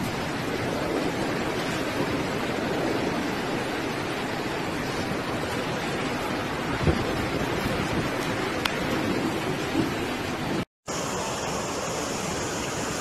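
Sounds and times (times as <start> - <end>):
heavy rain on floodwater: 0.0 - 13.0.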